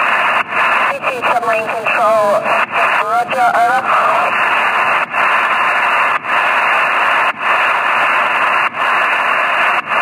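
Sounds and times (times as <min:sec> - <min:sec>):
shortwave radio static hiss: 0:00.0 - 0:10.0.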